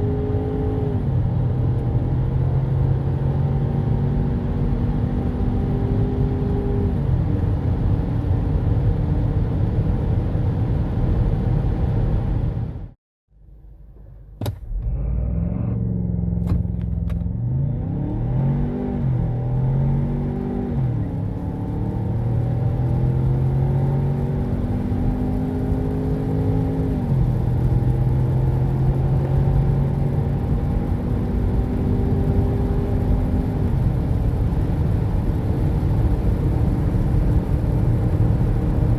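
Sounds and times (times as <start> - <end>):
car engine accelerating: 0.0 - 8.2, 13.9 - 38.9.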